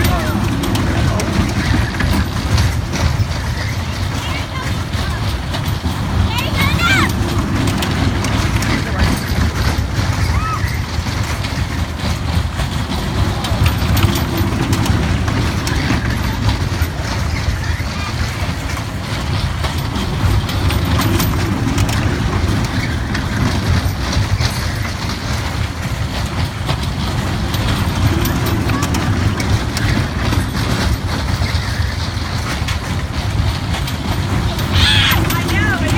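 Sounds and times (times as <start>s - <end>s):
clicks and rattles: 0.0s - 35.9s
ride-on toy train rumbling: 0.0s - 35.9s.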